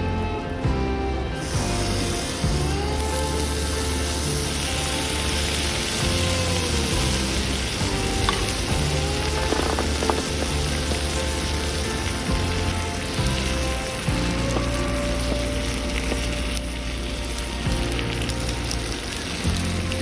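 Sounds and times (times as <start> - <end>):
background music: 0.0 - 20.0
food sizzling in a pan: 1.4 - 20.0.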